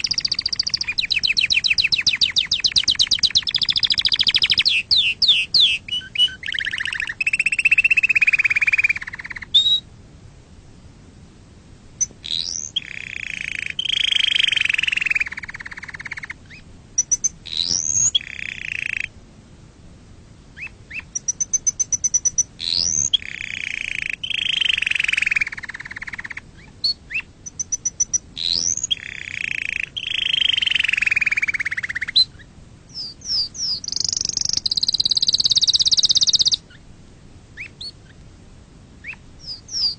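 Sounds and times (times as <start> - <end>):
canary singing: 0.0 - 9.9, 12.0 - 19.2, 20.6 - 36.8, 37.6 - 38.2, 39.0 - 39.9.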